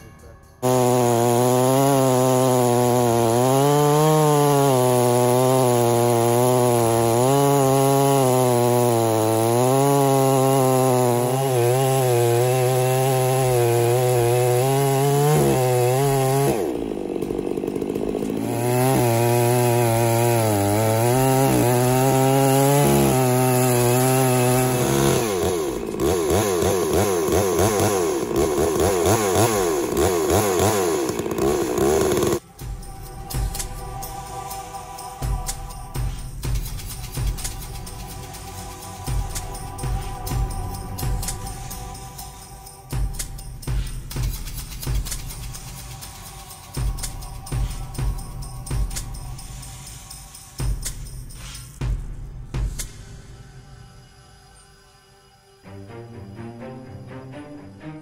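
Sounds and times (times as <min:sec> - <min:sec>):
chainsaw cutting a log: 0:00.6 - 0:51.4.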